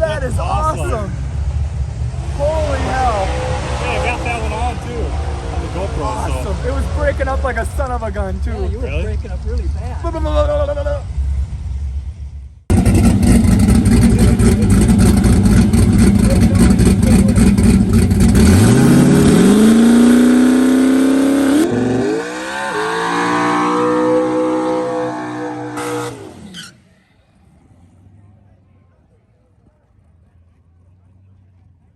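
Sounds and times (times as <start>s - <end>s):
drag car engine revving: 0.0s - 29.0s.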